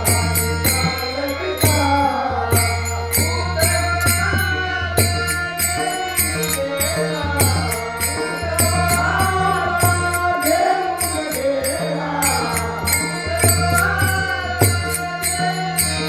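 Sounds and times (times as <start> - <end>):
man singing devotional song: 0.0 - 16.0
sharp percussion strokes: 0.0 - 16.0.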